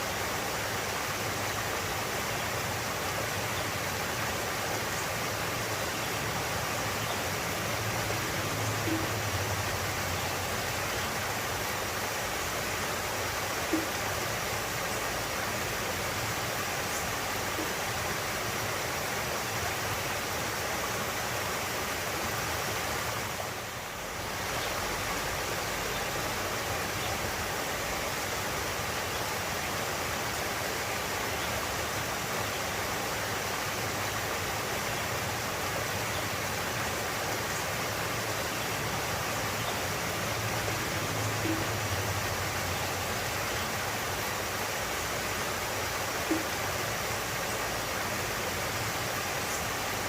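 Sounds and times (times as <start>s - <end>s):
water rushing: 0.0s - 50.0s.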